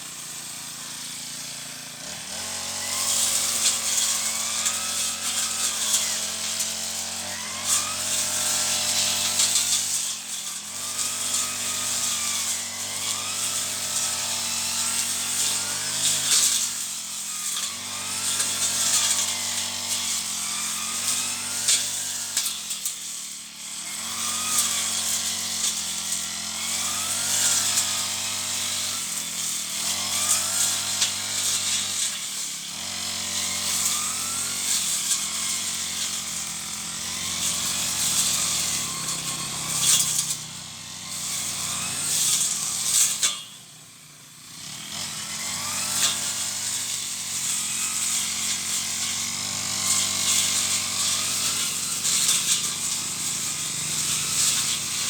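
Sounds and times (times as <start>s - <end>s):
brush cutter engine cutting weeds: 0.0s - 55.0s.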